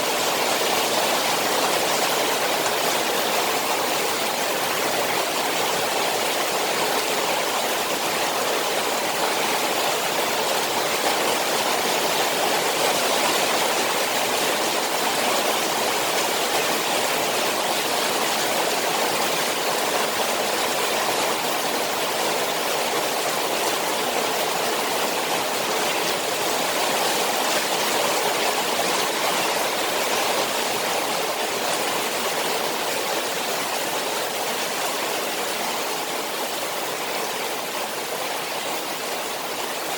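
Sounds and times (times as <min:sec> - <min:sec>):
rain falling into pond: 0:00.0 - 0:39.9.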